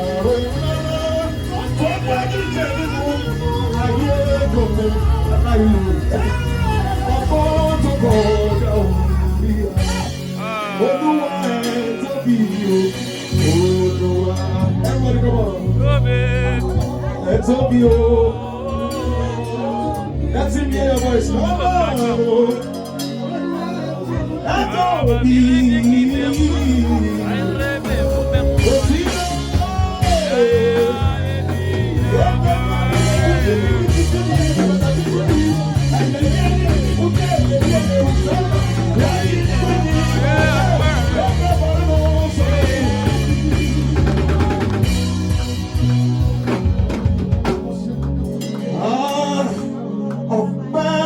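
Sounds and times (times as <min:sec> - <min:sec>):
bass guitar: 0:00.0 - 0:51.0
gospel band playing: 0:00.0 - 0:51.0
person singing: 0:00.0 - 0:51.0.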